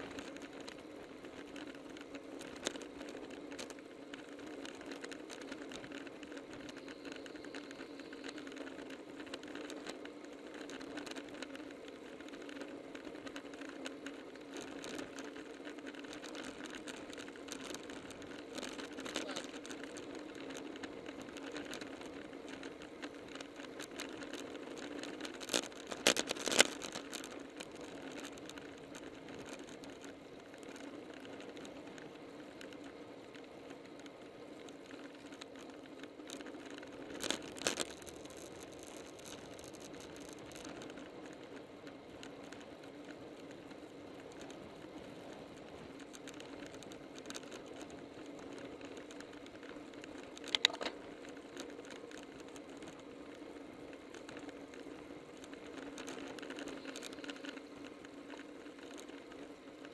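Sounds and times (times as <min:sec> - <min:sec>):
light rattle: 0:00.0 - 0:59.9
road and wind noise: 0:00.0 - 0:59.9.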